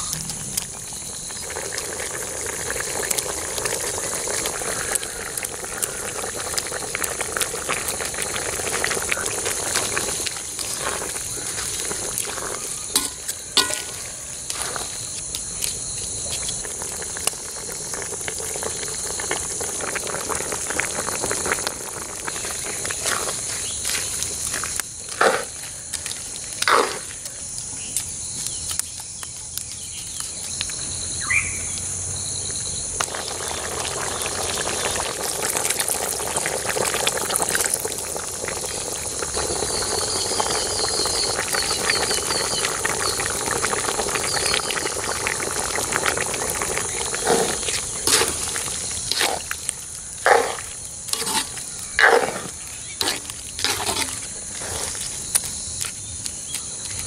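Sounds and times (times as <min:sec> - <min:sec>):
insects trilling: 0:00.0 - 0:57.0
stew boiling in a wok: 0:00.0 - 0:57.0.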